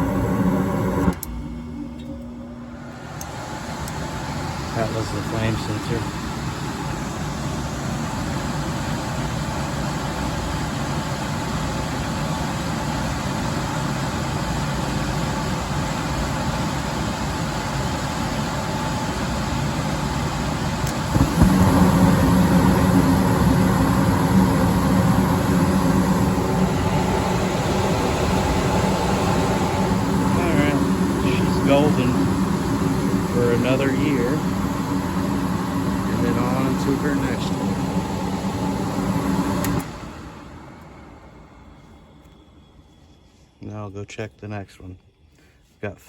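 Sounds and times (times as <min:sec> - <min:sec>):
furnace motor hum: 0:00.0 - 0:46.0.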